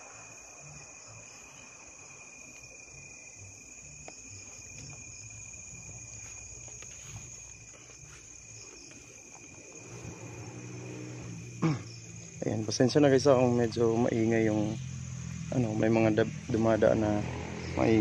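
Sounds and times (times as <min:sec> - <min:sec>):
crickets trilling: 0:00.0 - 0:18.0
distant traffic rumble: 0:00.0 - 0:18.0.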